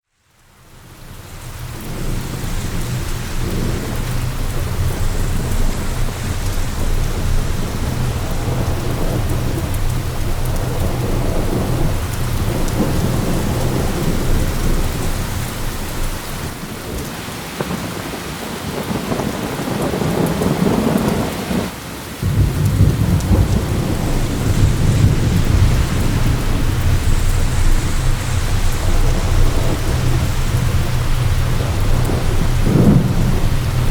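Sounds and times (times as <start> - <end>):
heavy rain falling: 0.2 - 33.9
deep thunder rumble: 0.8 - 33.9.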